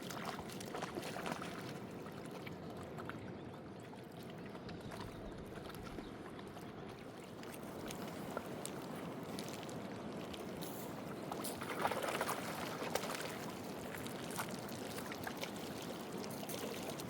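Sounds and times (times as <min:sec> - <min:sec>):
river water lapping and splashing: 0:00.0 - 0:17.0.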